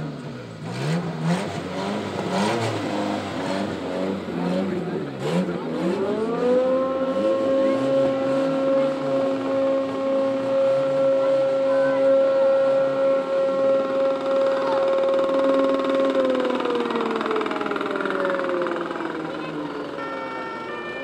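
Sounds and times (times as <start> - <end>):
vehicle engines revving: 0.0 - 21.0.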